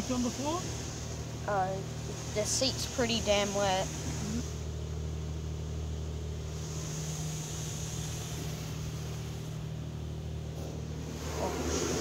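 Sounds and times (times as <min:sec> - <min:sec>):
car wash hiss: 0:00.0 - 0:04.7, 0:06.2 - 0:12.0
low mechanical hum: 0:00.0 - 0:12.0.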